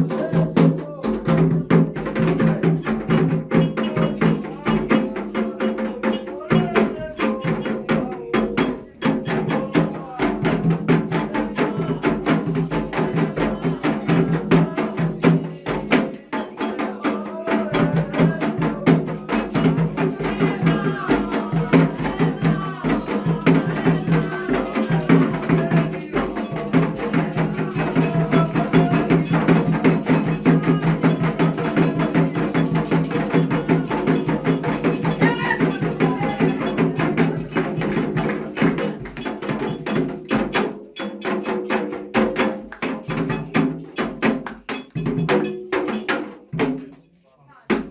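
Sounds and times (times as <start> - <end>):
voices singing: 0.0 - 47.8
drums: 0.0 - 47.9.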